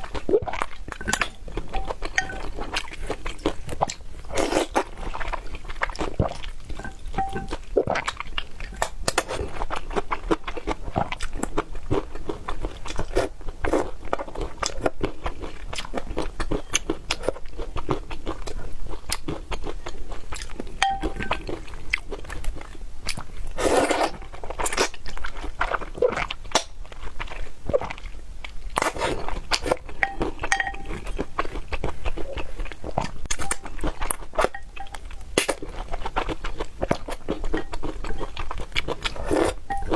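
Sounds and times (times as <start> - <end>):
person crunching and chewing food: 0.0 - 39.9.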